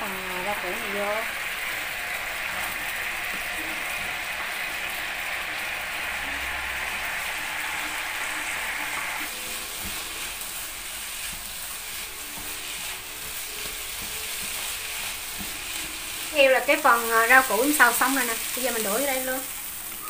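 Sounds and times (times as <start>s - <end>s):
vegetables sizzling in pan: 0.0s - 20.0s
wooden spatula stirring: 0.3s - 18.2s.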